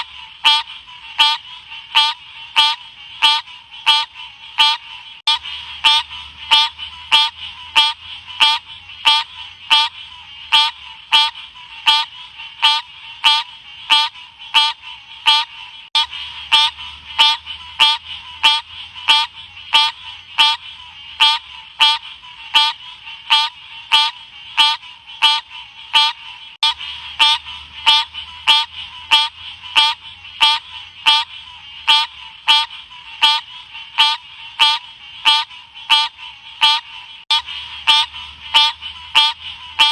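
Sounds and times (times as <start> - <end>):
frog chirping calls: 0.0 - 39.9.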